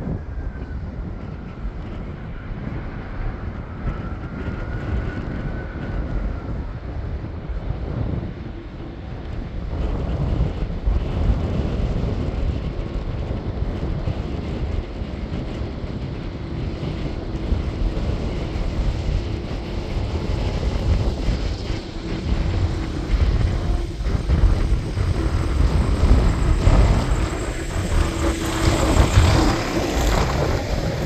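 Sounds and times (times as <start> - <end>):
jet engines rumbling: 0.0 - 31.0.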